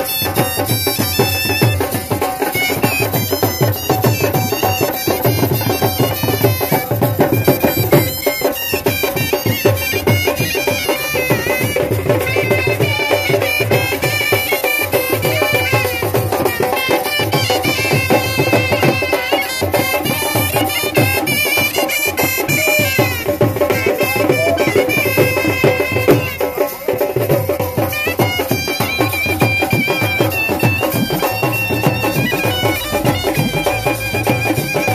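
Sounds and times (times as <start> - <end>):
drum beat: 0.0 - 34.9
reed pipes playing folk tune: 0.0 - 34.9.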